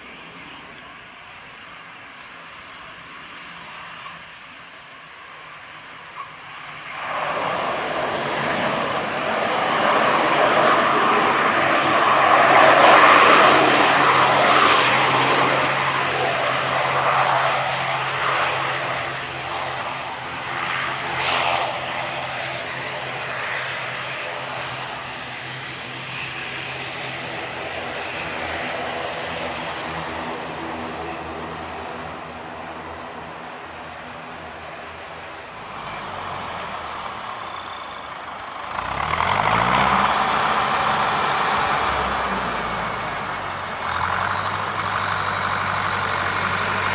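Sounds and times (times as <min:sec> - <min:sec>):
jet airliner engines passing: 0:00.0 - 0:46.9.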